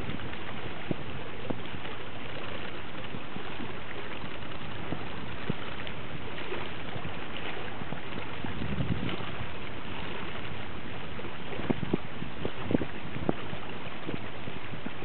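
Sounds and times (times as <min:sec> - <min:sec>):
sea water rushing: 0:00.0 - 0:15.0.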